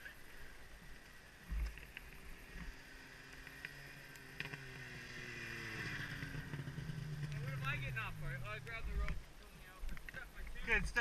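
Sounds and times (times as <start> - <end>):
snowmobile engine approaching: 0.0 - 9.2.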